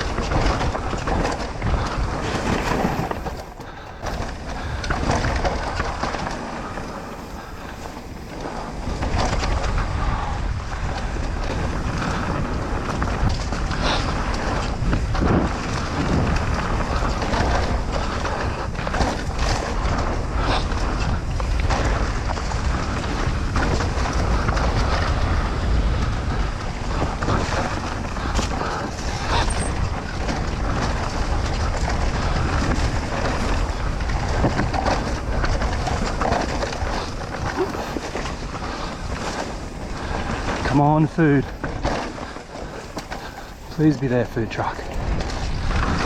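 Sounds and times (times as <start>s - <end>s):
bike rattling over bumps: 0.0s - 46.0s
tyre noise on trail: 0.0s - 46.0s
wind buffeting microphone: 0.0s - 46.0s.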